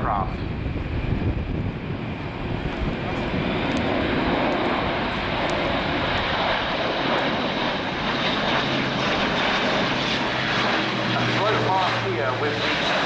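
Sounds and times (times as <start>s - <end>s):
propeller aircraft droning past: 0.0s - 13.0s.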